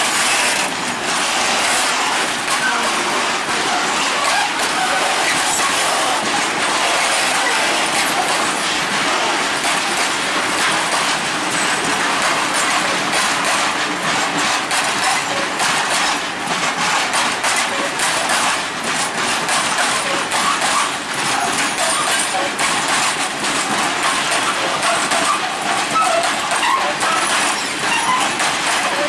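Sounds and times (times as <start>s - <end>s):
steel wheels rumbling on rail: 0.0s - 29.0s
wheels clicking over rail joints: 0.0s - 29.0s.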